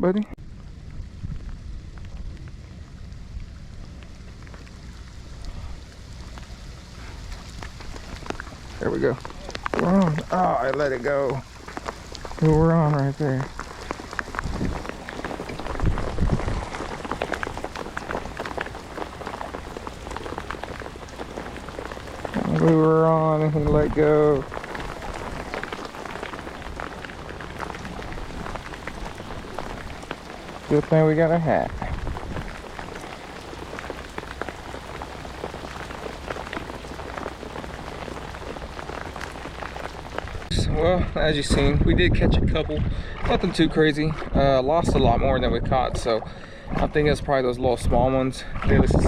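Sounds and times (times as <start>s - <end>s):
rain falling: 0.0s - 49.0s.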